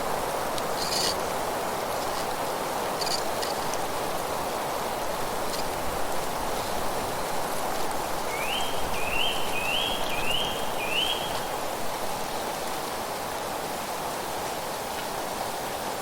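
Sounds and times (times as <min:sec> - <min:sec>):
wind rushing through leaves: 0:00.0 - 0:16.0.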